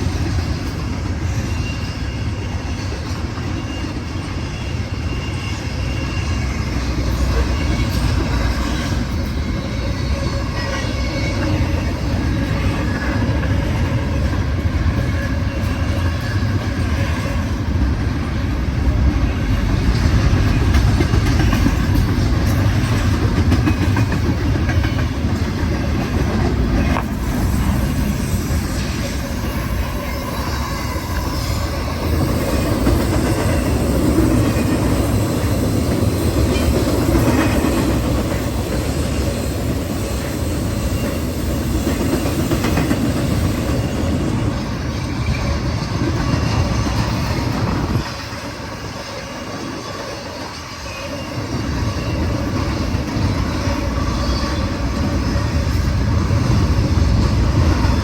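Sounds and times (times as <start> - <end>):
freight train passing: 0.0 - 58.0
wheels clickety-clack: 6.6 - 58.0.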